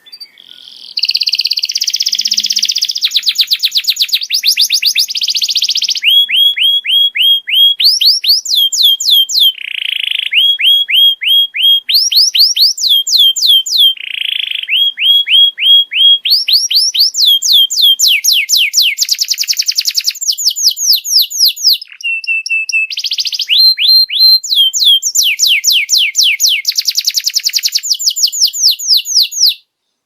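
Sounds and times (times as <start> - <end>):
canary singing trills and whistles: 0.0 - 29.7.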